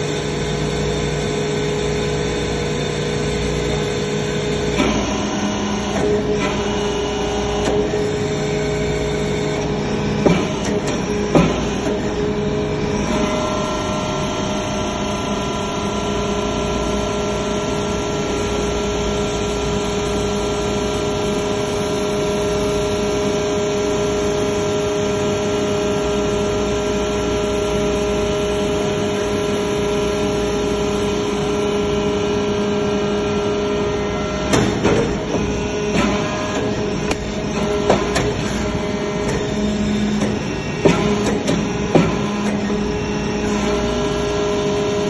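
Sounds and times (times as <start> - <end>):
constant whine: 0.0 - 45.0
hydraulic press humming: 0.1 - 45.0.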